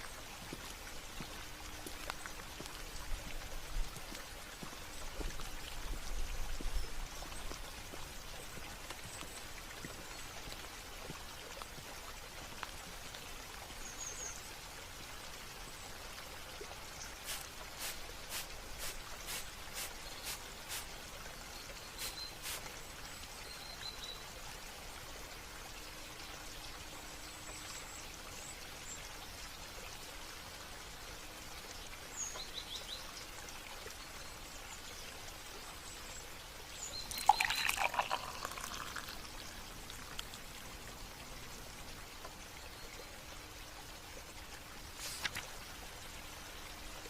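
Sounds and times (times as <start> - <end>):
water trickling: 0.0 - 47.0.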